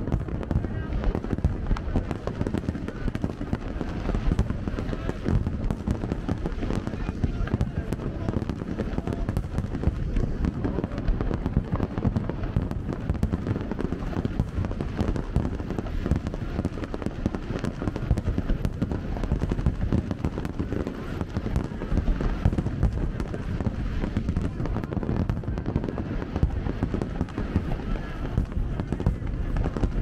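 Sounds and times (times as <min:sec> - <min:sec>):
firework shells booming: 0:00.0 - 0:30.0
fireworks crackling and popping: 0:00.0 - 0:30.0.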